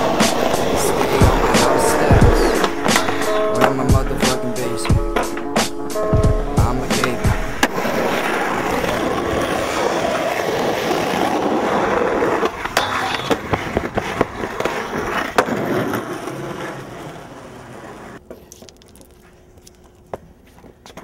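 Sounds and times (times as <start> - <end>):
skateboard clacks: 0.0 - 18.8
skateboard wheels rolling on pavement: 0.0 - 21.0.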